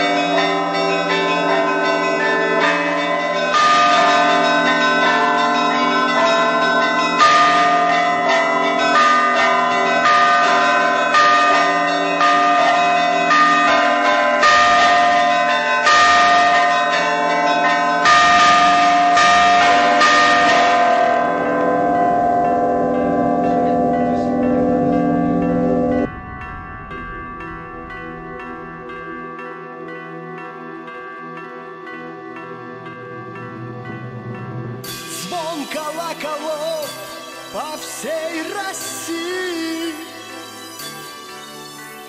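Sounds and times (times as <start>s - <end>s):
church bells ringing: 0.0s - 42.0s.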